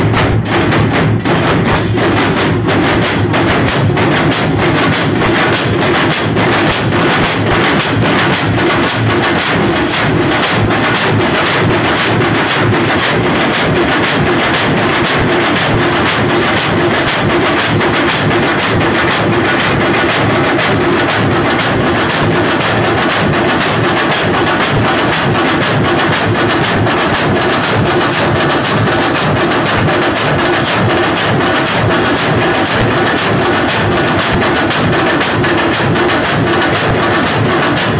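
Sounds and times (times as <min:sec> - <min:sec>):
drummers beating drums: 0:00.0 - 0:37.9.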